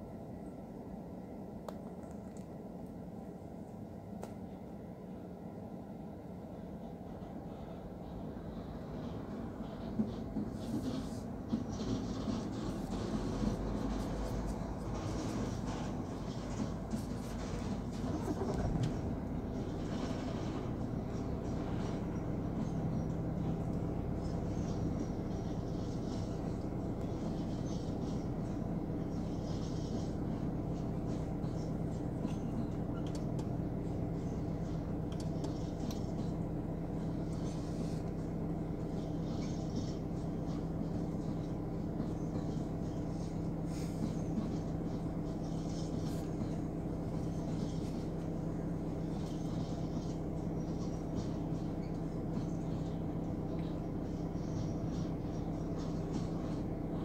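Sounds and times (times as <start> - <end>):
freight train rumbling past: 2.5 - 57.0.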